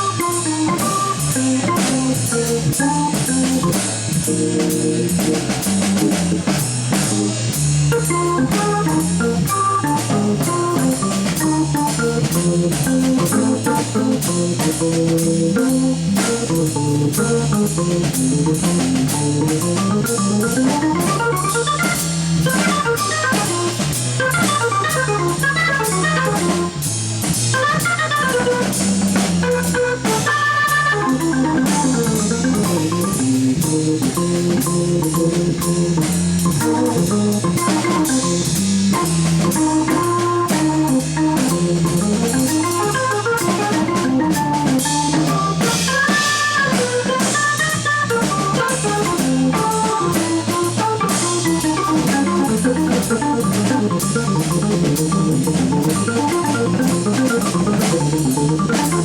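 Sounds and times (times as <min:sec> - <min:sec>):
drum kit: 0:00.0 - 0:59.0
low bass line: 0:00.0 - 0:59.0
organ chords: 0:00.0 - 0:59.0.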